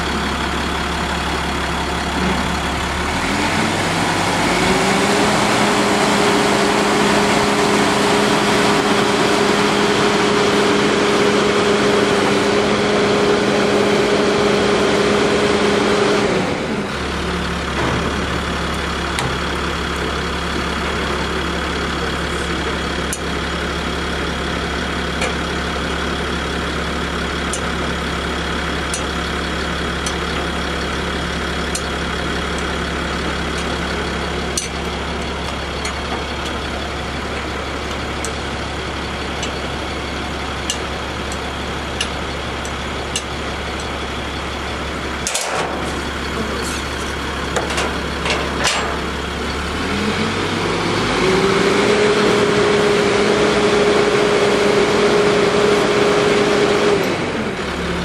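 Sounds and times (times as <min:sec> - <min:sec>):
heavy vehicle engine idling: 0:00.0 - 0:58.0.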